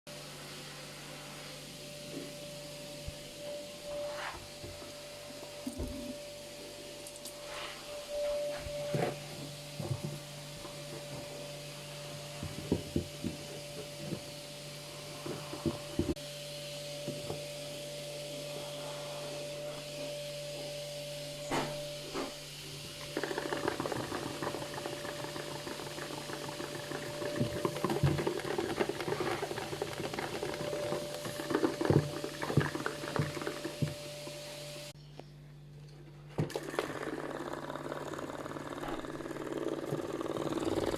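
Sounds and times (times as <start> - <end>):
washing machine motor hum: 0.1 - 35.0, 35.6 - 40.9.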